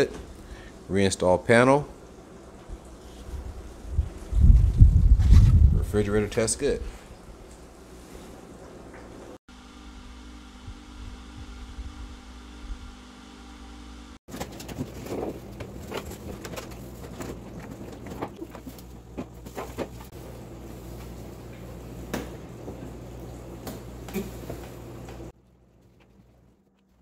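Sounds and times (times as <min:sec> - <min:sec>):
refrigerator humming: 0:00.0 - 0:27.0.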